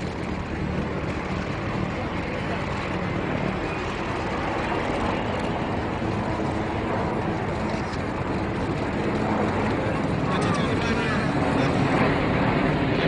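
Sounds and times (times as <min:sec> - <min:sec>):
faint steady tones: 0:00.0 - 0:13.0
rushing engine noise: 0:00.0 - 0:13.0.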